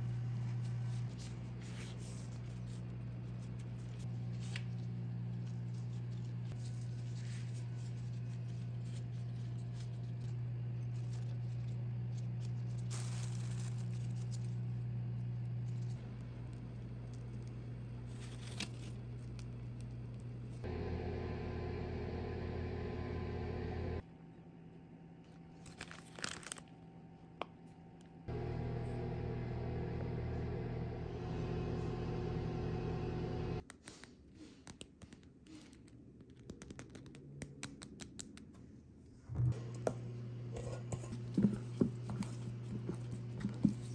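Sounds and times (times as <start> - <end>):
steady low hum: 0.0 - 25.6, 26.7 - 33.6, 39.1 - 43.9.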